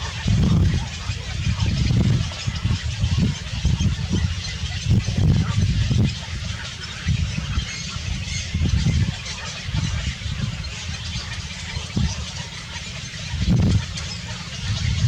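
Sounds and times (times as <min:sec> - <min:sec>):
waterfowl squawking: 0:00.0 - 0:15.0.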